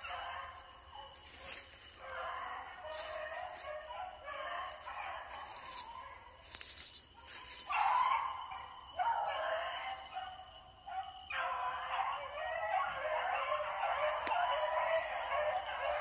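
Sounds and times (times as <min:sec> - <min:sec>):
hounds baying: 0:00.0 - 0:16.0.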